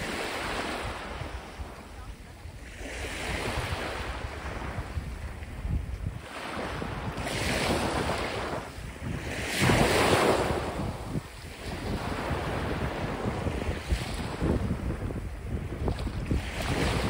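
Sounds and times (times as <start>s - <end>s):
small waves washing on shore: 0.0s - 17.0s
wind noise on microphone: 0.0s - 17.0s.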